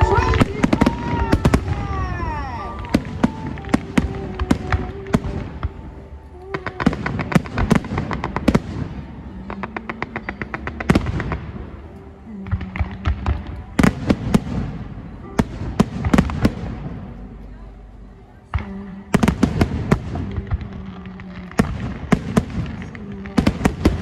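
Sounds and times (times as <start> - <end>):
fireworks cracking: 0.0 - 17.4, 18.5 - 24.0
low rumble of bursts: 0.0 - 24.0.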